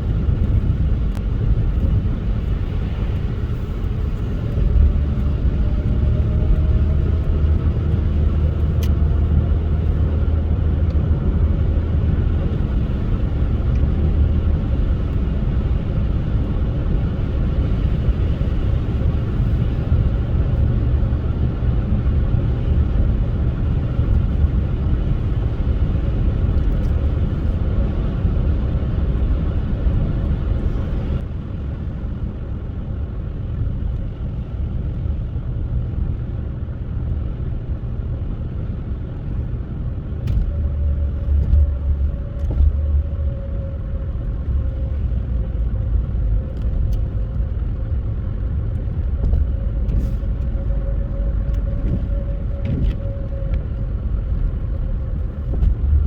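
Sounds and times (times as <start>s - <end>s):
car driving on snowy road: 0.0s - 56.0s.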